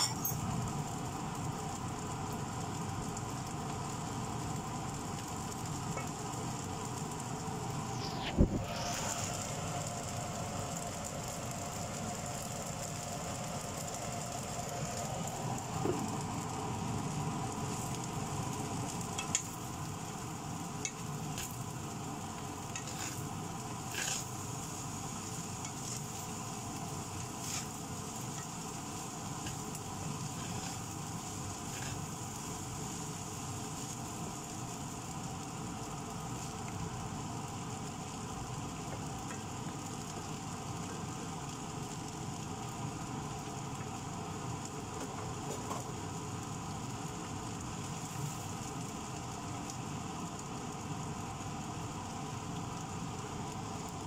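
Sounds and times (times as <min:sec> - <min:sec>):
rice and egg sizzling in a wok: 0:00.0 - 0:54.0.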